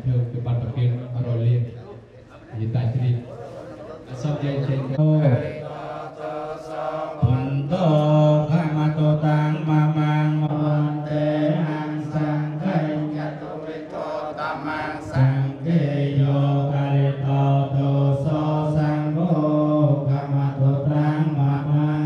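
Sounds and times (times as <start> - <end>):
group of voices chanting: 3.2 - 22.0.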